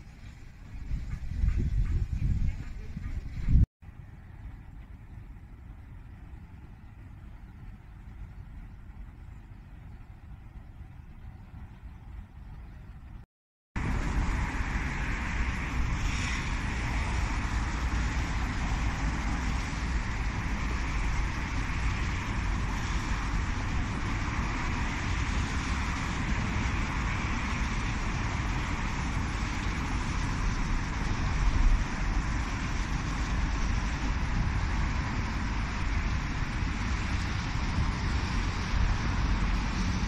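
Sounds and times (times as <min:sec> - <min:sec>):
wind on microphone: 0:00.0 - 0:13.2, 0:13.8 - 0:40.0
road traffic rumble: 0:00.0 - 0:40.0.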